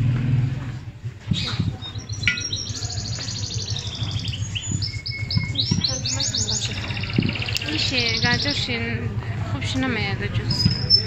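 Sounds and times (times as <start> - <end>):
small birds singing: 1.2 - 9.0, 9.7 - 11.0.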